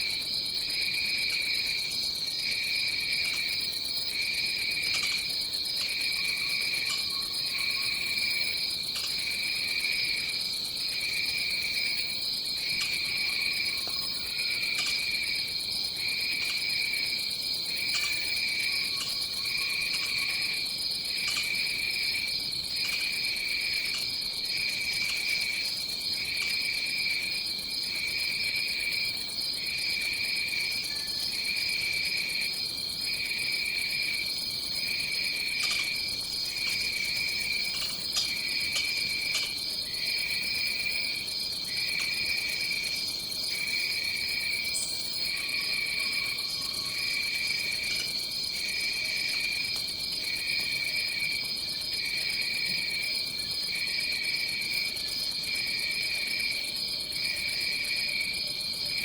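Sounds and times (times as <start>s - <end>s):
high-pitched insect chorus: 0.0s - 59.0s
pulsing low insect trill: 0.0s - 59.0s.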